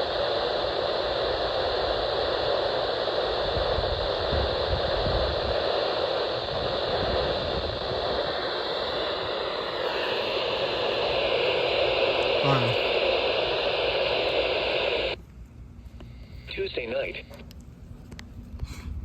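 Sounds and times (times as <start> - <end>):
radio static hiss: 0.0 - 15.2, 16.1 - 17.5.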